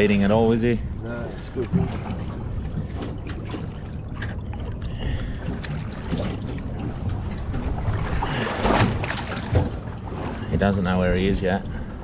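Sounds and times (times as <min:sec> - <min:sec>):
steady low rumble: 0:00.0 - 0:12.0
water sloshing against boat: 0:00.0 - 0:12.0.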